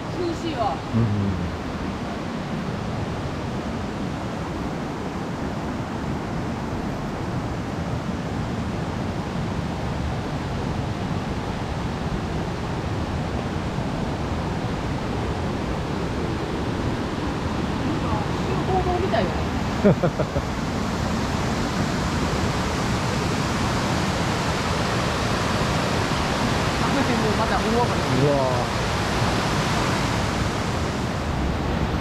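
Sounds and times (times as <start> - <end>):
rushing waterfalls and rapids: 0.0 - 32.0.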